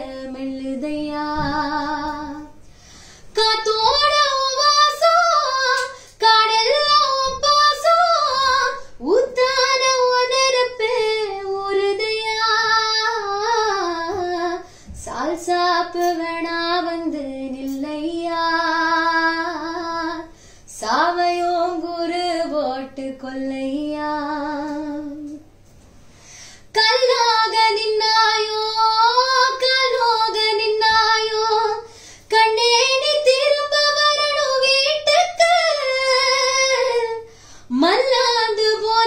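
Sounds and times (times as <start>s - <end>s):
woman singing unaccompanied: 0.0s - 2.6s, 3.3s - 25.4s, 26.7s - 39.0s.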